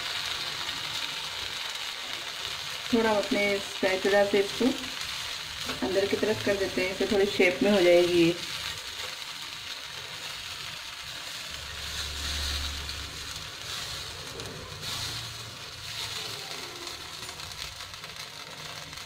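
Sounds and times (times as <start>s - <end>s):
batter sizzling on a hot pan: 0.0s - 19.0s.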